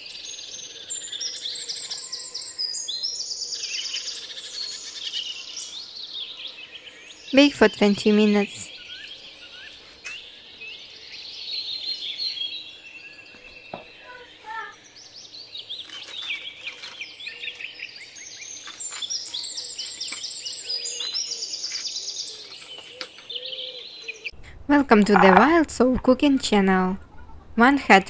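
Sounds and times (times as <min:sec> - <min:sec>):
birds chirping and trilling: 0:00.0 - 0:25.6.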